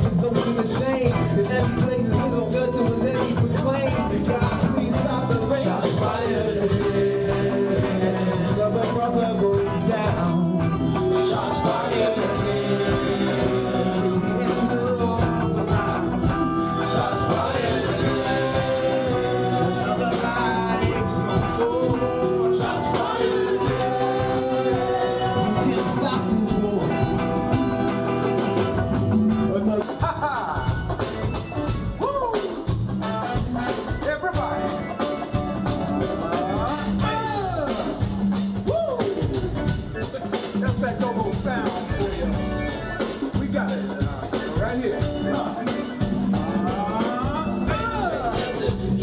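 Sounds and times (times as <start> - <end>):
person singing: 0.0 - 28.1, 32.0 - 32.8, 33.7 - 49.0
live rock band playing: 0.0 - 49.0.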